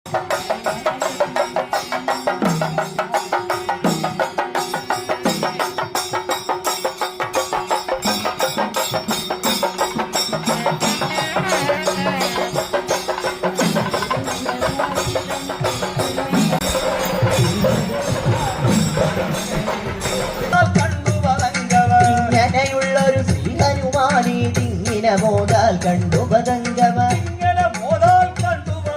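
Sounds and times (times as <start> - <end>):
fast drum strokes: 0.1 - 28.9.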